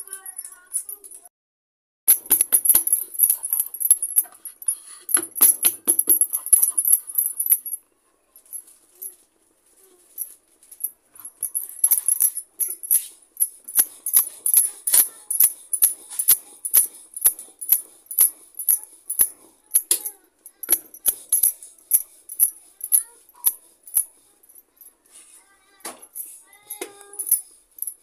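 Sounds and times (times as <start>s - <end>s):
glass bangles clinking: 2.1s - 7.9s, 9.9s - 25.0s, 25.8s - 28.0s.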